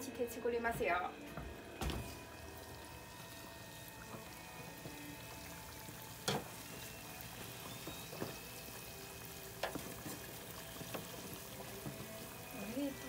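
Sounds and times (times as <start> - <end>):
oil sizzling: 1.5 - 13.0.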